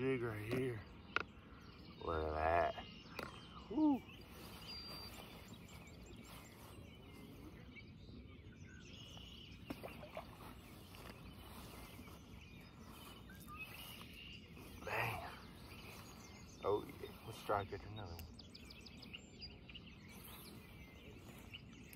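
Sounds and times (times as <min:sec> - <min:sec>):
faint bird chirps: 0:00.0 - 0:21.9.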